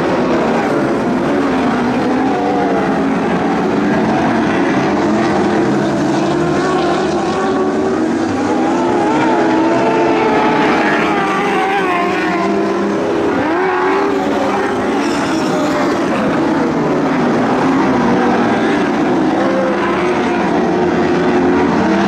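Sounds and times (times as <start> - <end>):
sprint car engines racing: 0.0 - 22.0.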